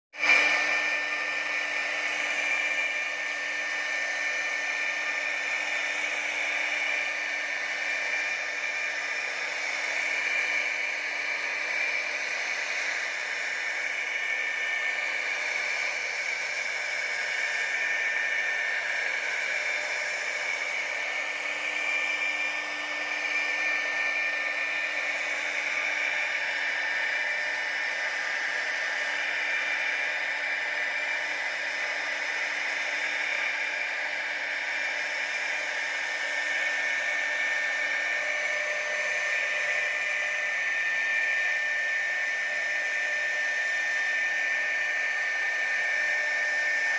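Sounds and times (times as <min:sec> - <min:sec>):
router spindle whining: 0:00.2 - 0:46.9.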